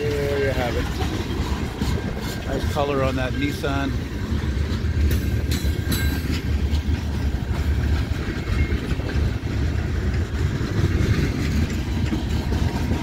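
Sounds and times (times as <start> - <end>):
freight train rumbling: 0.0 - 13.0
wheels clacking over rails: 0.0 - 13.0.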